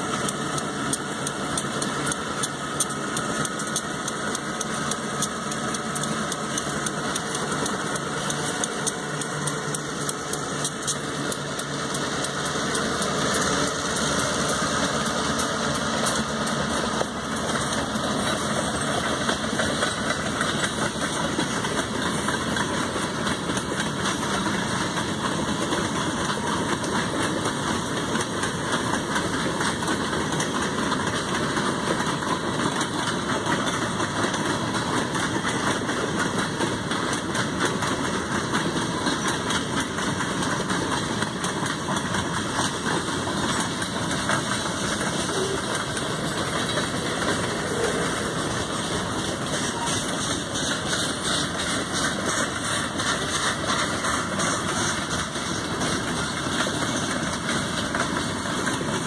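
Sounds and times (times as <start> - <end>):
diesel locomotive engine running: 0.0 - 59.0
train wheels rumbling and clicking: 0.0 - 59.0.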